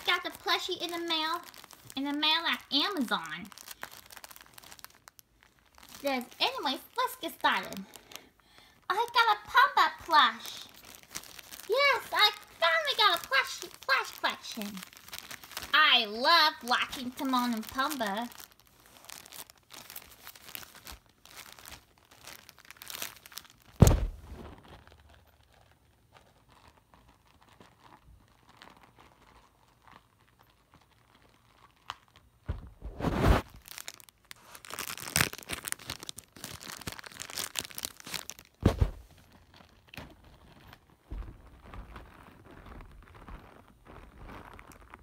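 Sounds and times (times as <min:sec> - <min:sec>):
plastic bag crinkling and tearing: 0:00.0 - 0:45.0.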